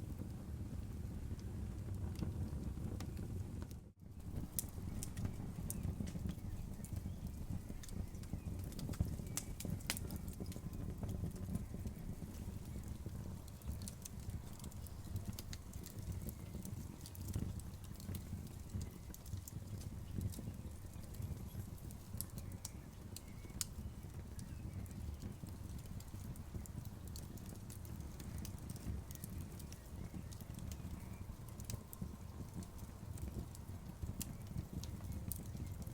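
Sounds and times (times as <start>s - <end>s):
fire crackling and popping: 0.0s - 35.9s
flames rumbling: 0.0s - 35.9s.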